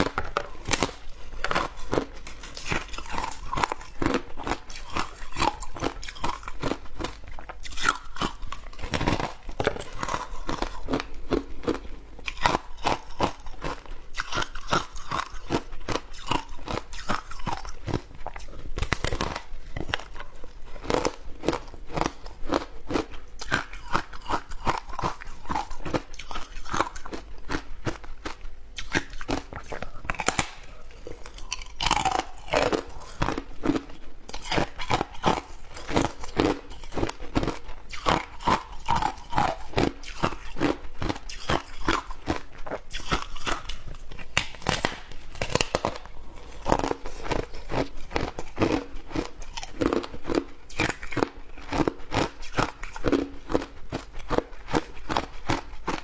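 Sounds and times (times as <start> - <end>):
chewing crunching ice: 0.0 - 56.0.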